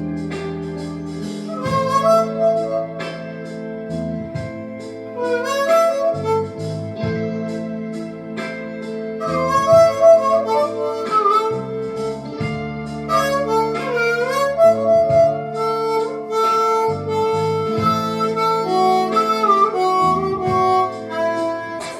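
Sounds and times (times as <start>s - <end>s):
blues harmonica: 0.0s - 21.9s
guitar accompaniment: 0.0s - 21.9s.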